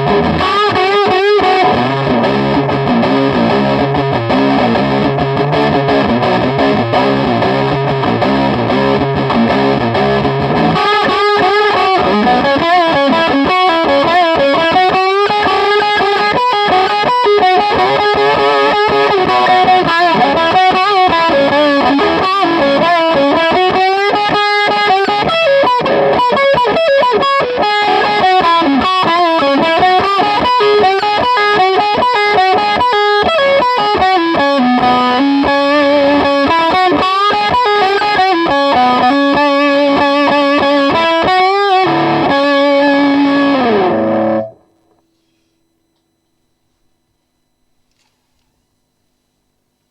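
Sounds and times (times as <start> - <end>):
distorted electric guitar lead: 0.0 - 47.6.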